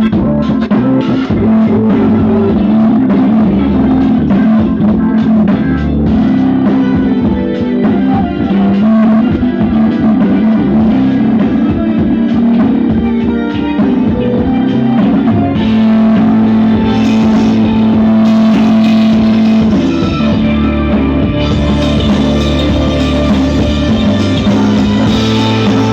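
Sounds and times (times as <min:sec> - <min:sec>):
loud rock music: 0:00.0 - 0:25.9.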